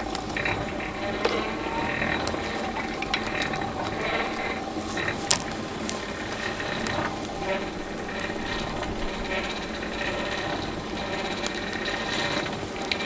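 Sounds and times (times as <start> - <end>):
forge blower whirring: 0.0 - 13.0.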